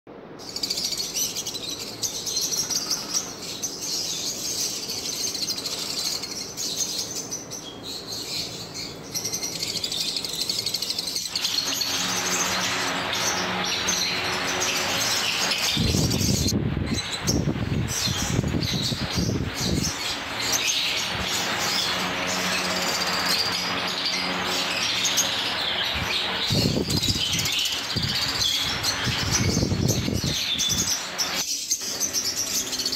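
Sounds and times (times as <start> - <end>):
lovebirds chirping: 0.4 - 32.9.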